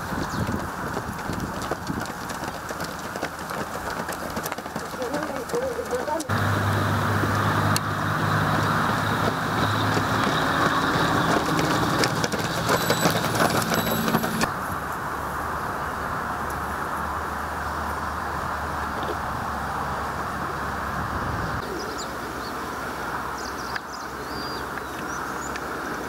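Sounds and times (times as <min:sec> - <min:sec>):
low engine hum: 0:00.0 - 0:26.0
outdoor background noise: 0:00.0 - 0:26.0.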